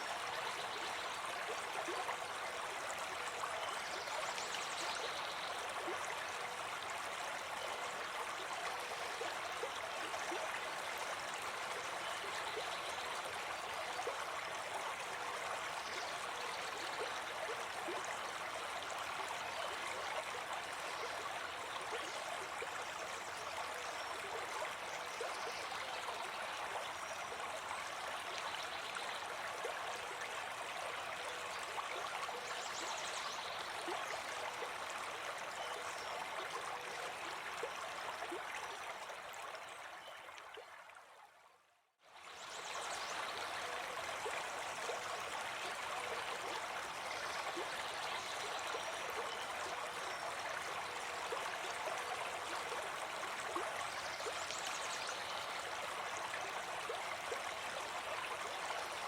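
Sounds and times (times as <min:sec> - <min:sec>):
brook babbling: 0:00.0 - 0:59.0.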